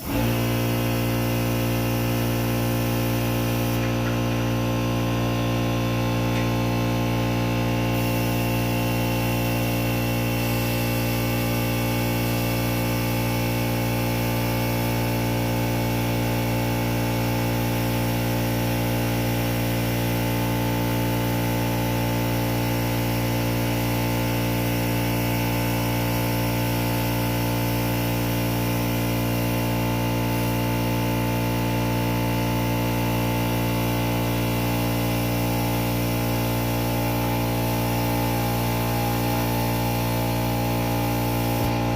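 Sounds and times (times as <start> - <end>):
air compressor running: 0.0 - 41.9.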